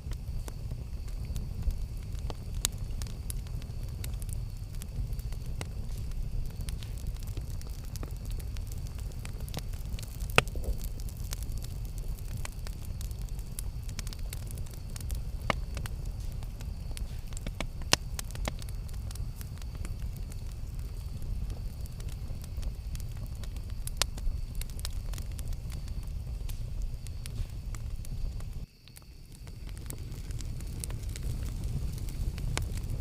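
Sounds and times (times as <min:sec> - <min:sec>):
campfire rumble: 0:00.0 - 0:33.0
fire crackling and popping: 0:00.0 - 0:33.0.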